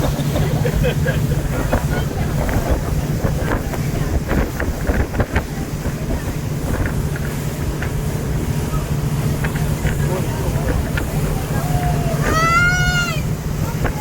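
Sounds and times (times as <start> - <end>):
motor boat engine droning: 0.0 - 14.0
wind buffeting microphone: 0.0 - 14.0.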